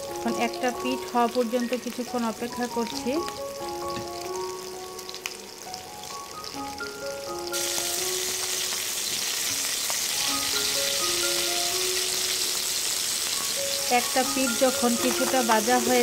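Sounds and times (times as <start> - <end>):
background melody: 0.0 - 16.0
fish sizzling in oil: 0.0 - 16.0.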